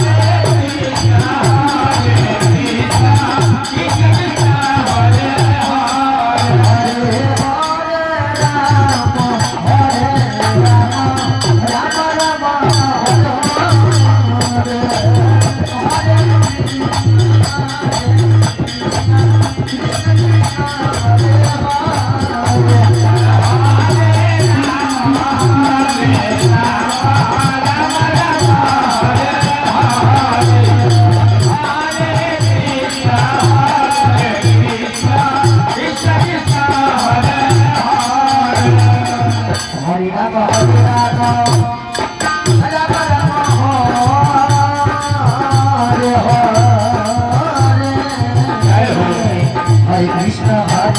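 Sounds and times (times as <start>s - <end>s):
person singing: 0.0s - 50.9s
pulsing drum beat: 0.0s - 50.9s.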